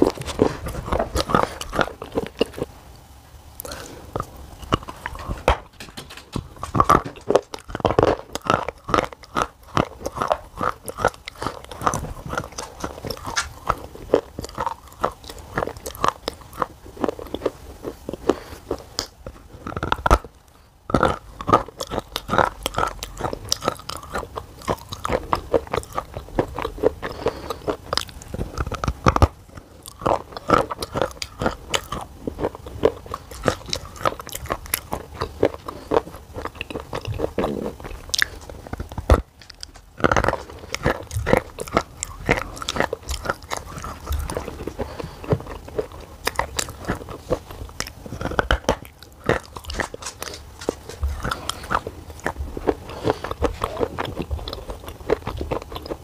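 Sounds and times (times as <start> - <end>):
person chewing clay: 0.0 - 56.0.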